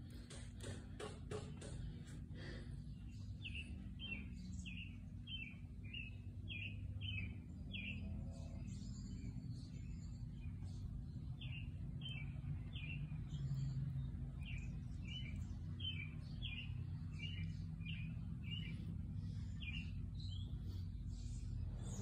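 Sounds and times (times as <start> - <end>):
low background rumble: 0.0 - 22.0
small bird chirping: 2.8 - 22.0.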